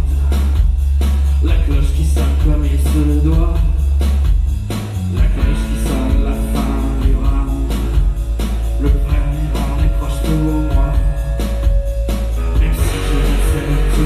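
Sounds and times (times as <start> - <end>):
live rock music: 0.0 - 14.0.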